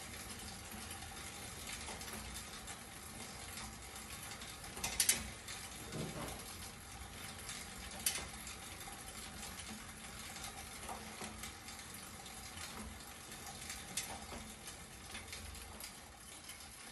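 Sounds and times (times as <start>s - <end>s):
exercise bike fan rushing air: 0.0s - 16.9s.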